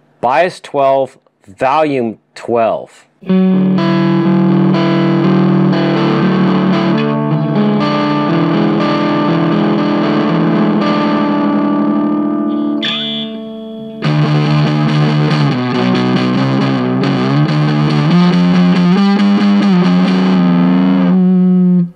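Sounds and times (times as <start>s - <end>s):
fuzz electric guitar chords: 3.2s - 21.9s.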